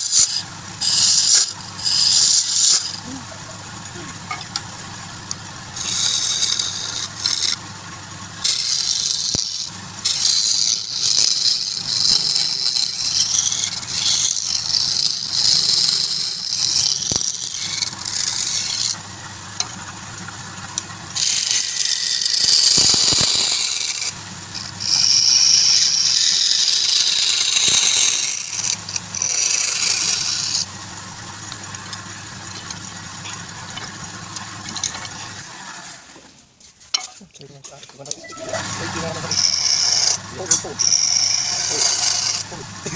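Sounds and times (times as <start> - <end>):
wood lathe humming: 0.0 - 35.6, 38.4 - 42.9
turning tool cutting wood: 0.0 - 36.2, 38.1 - 42.9.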